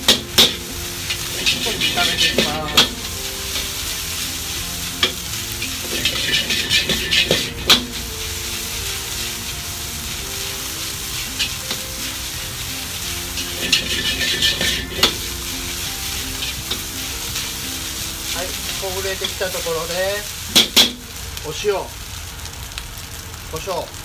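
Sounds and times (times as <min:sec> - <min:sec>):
ladle scraping and clanking on wok: 0:00.0 - 0:21.1
rice sizzling in a wok: 0:00.0 - 0:24.0.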